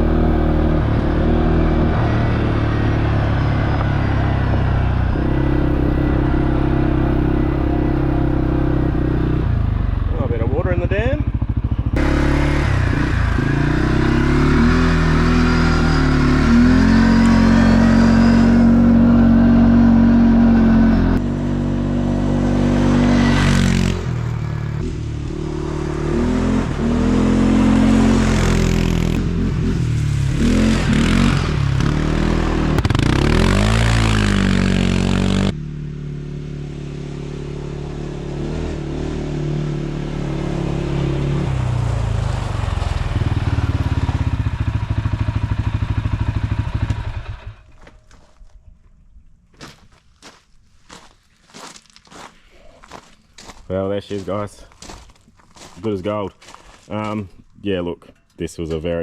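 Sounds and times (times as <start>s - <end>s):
quad bike engine revving: 0.0s - 47.6s.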